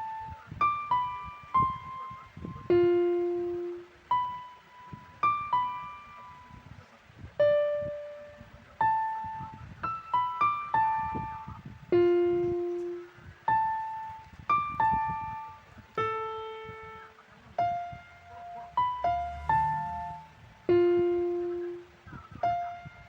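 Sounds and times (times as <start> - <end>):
slow keyboard melody: 0.0 - 23.0.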